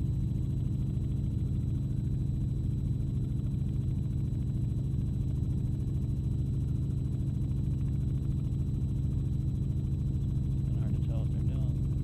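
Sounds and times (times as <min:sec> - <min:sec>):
aircraft engine drone in cabin: 0:00.0 - 0:12.0.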